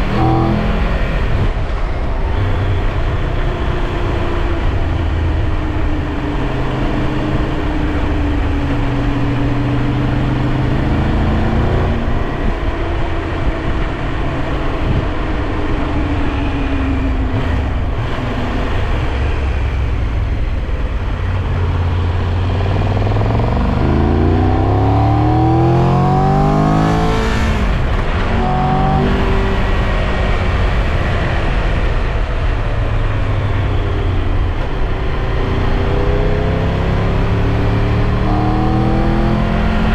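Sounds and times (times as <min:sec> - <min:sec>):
wind rush: 0:00.0 - 0:36.4
motorcycle engine accelerating: 0:00.0 - 0:39.9.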